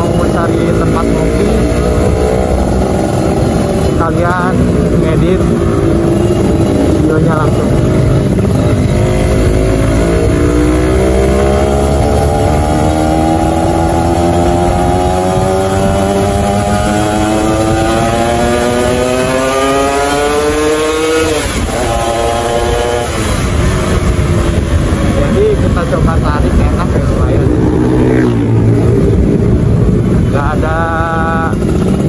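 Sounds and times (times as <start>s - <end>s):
motorcycle engine pulling: 0.0s - 32.0s
wind and road noise: 0.0s - 32.0s.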